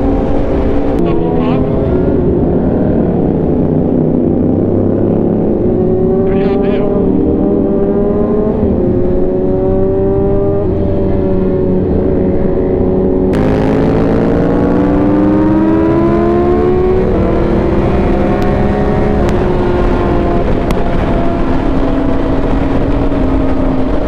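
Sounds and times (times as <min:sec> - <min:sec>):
motorcycle engine accelerating: 0:00.0 - 0:24.0
wind rush: 0:00.0 - 0:24.0.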